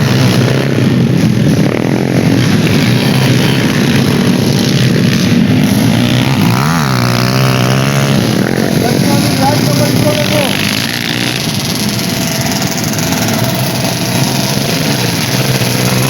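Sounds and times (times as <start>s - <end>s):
motorcycle engine revving: 0.0s - 16.0s
motorcycle engines running: 0.0s - 16.0s.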